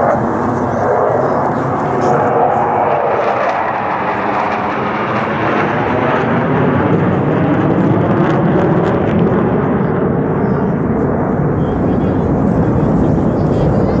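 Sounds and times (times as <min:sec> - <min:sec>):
military aircraft engine rushing: 0:00.0 - 0:14.0.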